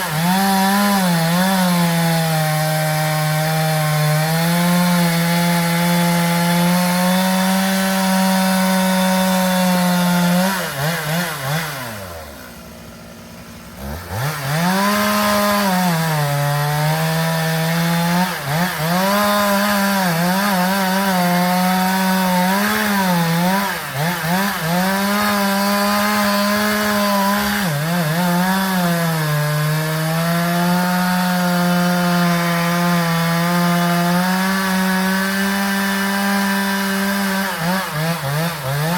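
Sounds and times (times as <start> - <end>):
chainsaw cutting into tree: 0.0 - 38.9.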